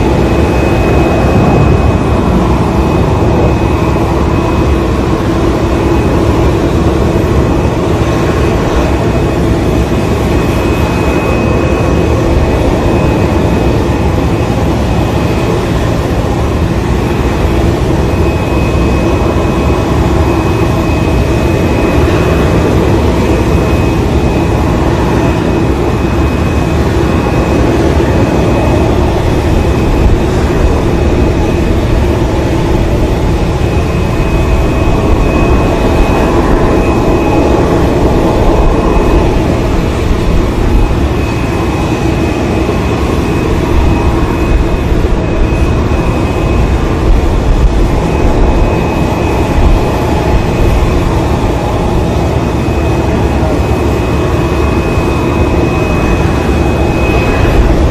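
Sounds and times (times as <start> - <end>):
aircraft engines droning: 0.0 - 57.9
faint high whine: 0.0 - 57.9.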